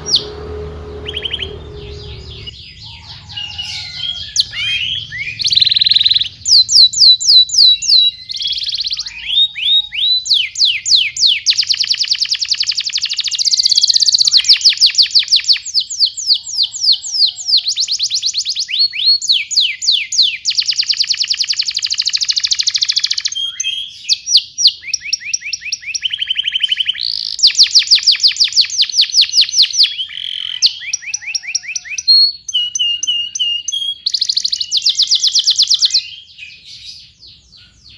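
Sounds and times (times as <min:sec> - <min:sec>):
canary singing trills: 0:00.0 - 0:37.9.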